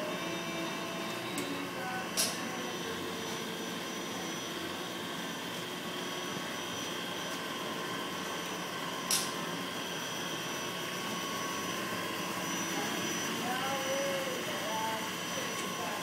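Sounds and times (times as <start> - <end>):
grinding machine with high whine: 0.0 - 16.0.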